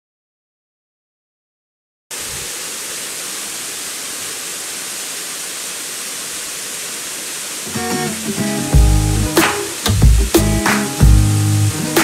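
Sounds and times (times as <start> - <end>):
waterfall rushing: 2.1 - 12.0.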